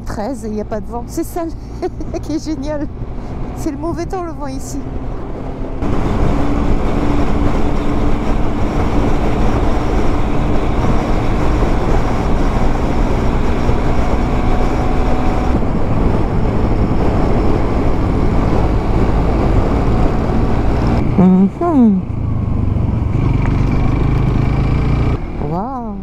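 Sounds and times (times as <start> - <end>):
motorcycle engine cruising: 0.0 - 26.0
wind and road rush: 0.0 - 26.0.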